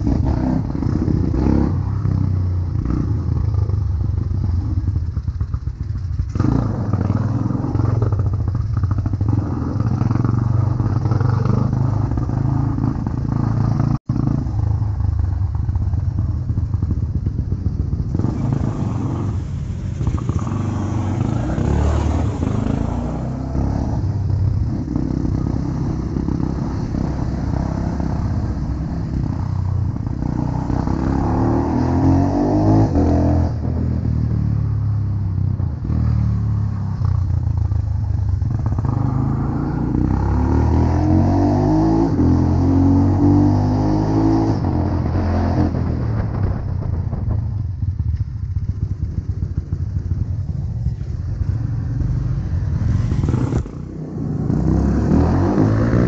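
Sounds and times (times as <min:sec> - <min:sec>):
motorcycle engine running: 0:00.0 - 0:40.6, 0:44.5 - 0:56.0.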